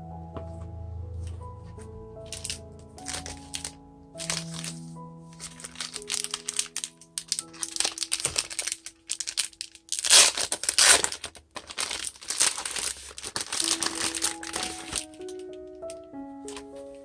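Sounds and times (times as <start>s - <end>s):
soft background music: 0.0s - 11.0s, 11.8s - 17.0s
packaging crinkling: 2.3s - 17.0s.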